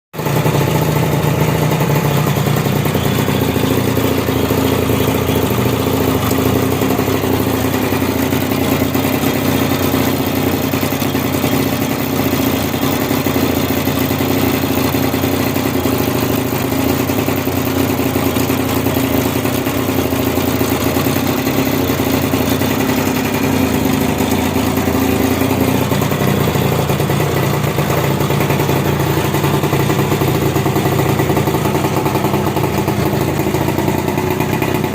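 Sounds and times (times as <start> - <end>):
two-stroke engine running: 0.2 - 34.9.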